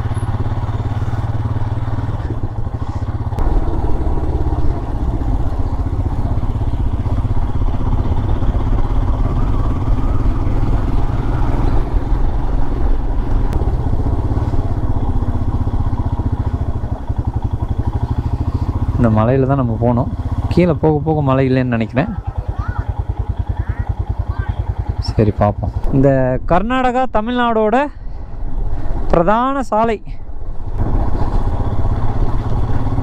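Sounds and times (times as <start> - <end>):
motorcycle engine running: 0.0 - 26.3, 30.3 - 33.0.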